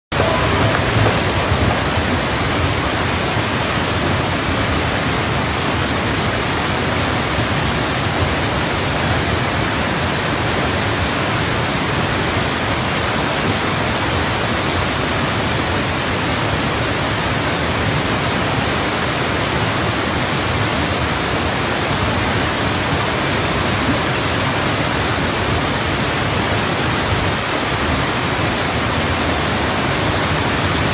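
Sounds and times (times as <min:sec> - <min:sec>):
floodwater rushing: 0:00.0 - 0:30.9.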